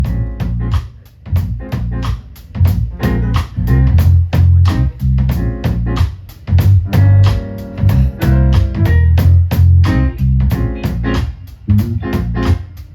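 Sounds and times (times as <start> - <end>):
bass notes: 0.0 - 12.8
drum kit beat: 0.0 - 12.9.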